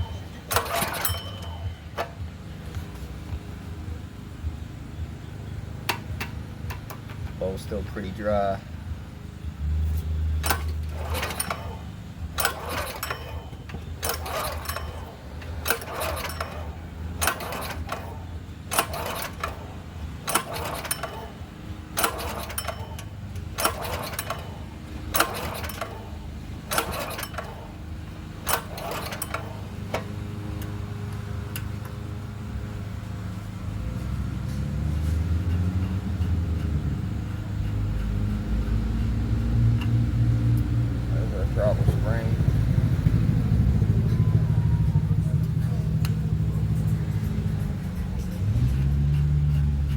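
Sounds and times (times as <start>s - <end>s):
engine pull-starter pulls: 0.0s - 3.5s, 9.8s - 32.2s, 33.8s - 49.9s
steady low hum: 0.0s - 49.9s.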